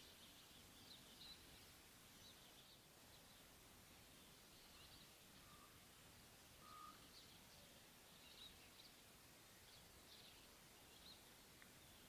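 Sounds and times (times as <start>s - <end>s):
distant small birds chirping: 0.0s - 12.0s.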